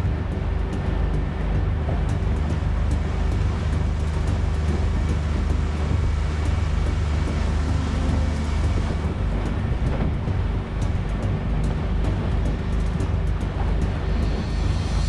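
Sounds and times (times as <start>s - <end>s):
outboard motor running: 0.0s - 15.0s
water rushing past hull: 0.0s - 15.0s
wind on microphone: 0.0s - 15.0s.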